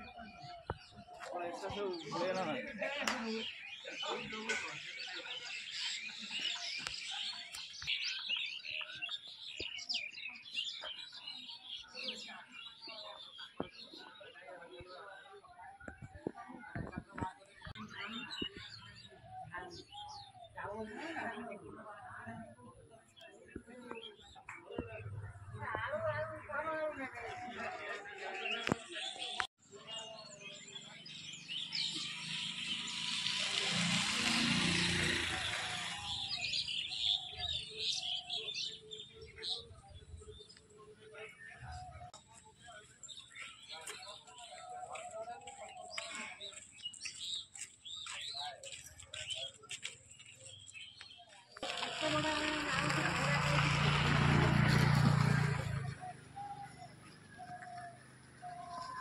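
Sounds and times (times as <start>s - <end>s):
many birds chirping: 0.0s - 59.0s.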